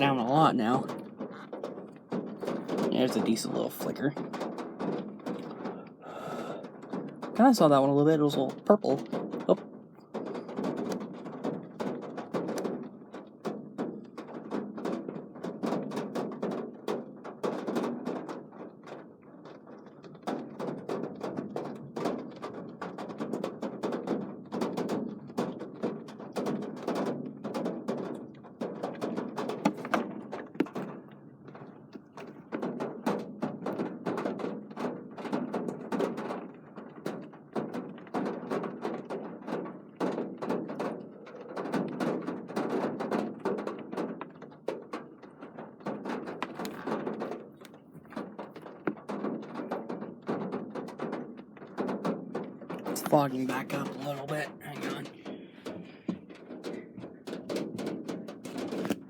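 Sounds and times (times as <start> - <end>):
raindrops tapping on hard surface: 0.0 - 59.0.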